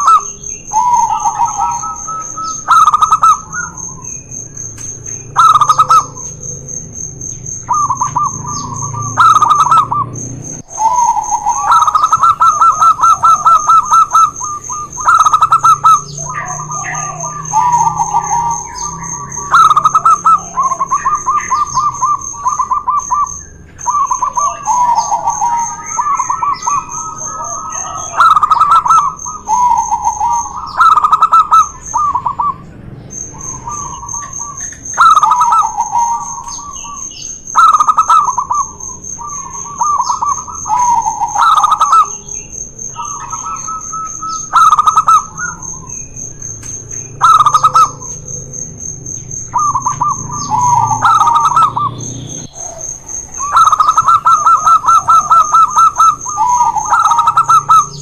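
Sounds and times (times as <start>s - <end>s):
doves cooing: 0.0s - 58.0s.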